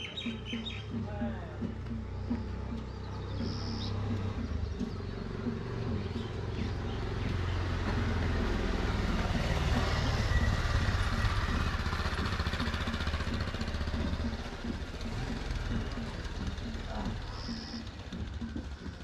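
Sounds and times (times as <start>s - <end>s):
motorcycle passing by: 0.0s - 19.0s.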